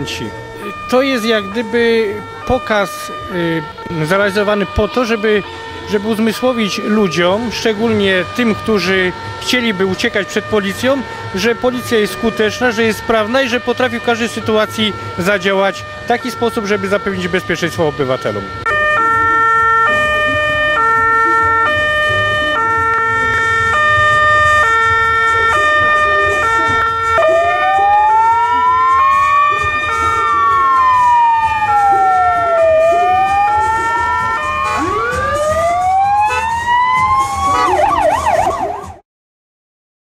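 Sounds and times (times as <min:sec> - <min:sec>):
two-tone police siren: 0:00.0 - 0:39.0
wailing siren: 0:00.0 - 0:39.0.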